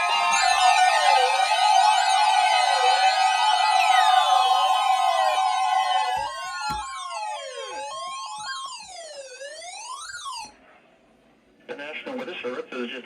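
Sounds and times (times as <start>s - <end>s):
wailing alarm tones: 0.0s - 10.6s.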